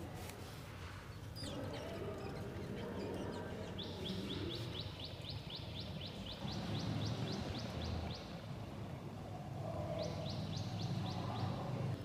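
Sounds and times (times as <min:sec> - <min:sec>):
bird chirping: 0:00.8 - 0:09.0, 0:09.6 - 0:12.0.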